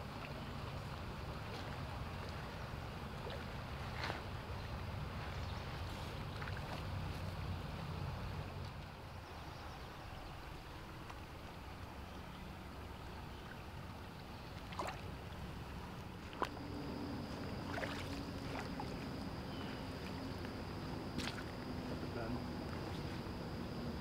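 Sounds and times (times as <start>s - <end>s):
stream water running and lapping: 0.0s - 24.0s.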